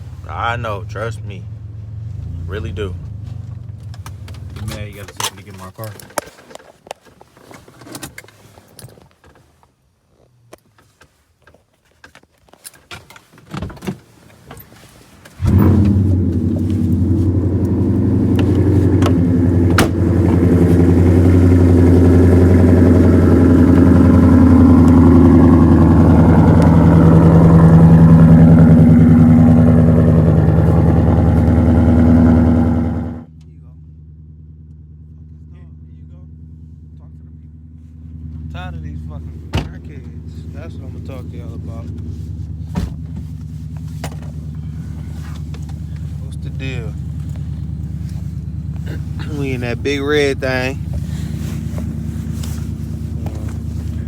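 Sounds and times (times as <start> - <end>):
car engine running: 0.0 - 6.1, 14.8 - 54.0.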